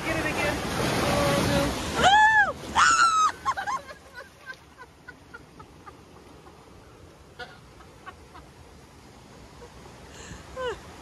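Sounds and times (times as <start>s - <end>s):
faint rush of water: 0.0s - 11.0s.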